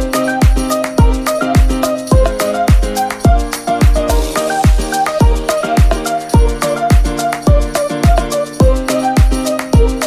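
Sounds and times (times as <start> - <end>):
dance music: 0.0 - 10.0
deep kick drum: 0.4 - 9.9.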